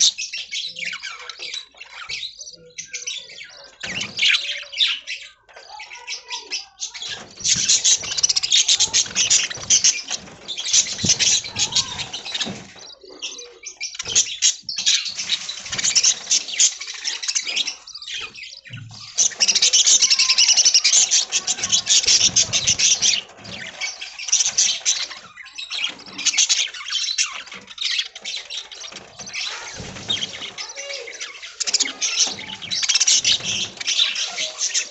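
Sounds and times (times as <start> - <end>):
budgerigars chattering and warbling: 0.0 - 34.9.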